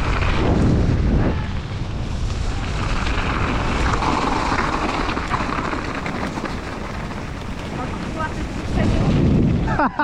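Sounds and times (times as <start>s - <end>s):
bike tyres on trail: 0.0s - 10.0s
wind on microphone: 0.0s - 10.0s.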